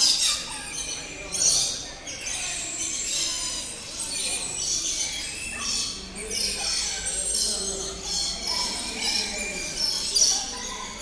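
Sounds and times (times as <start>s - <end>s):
birds chirping and chattering: 0.0s - 11.0s.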